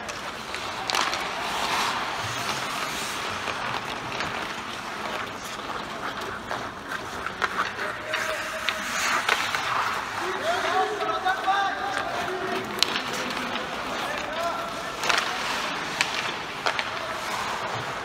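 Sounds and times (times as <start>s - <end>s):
hockey sticks and puck clacking: 0.0s - 18.0s
skates scraping across ice: 0.0s - 18.0s.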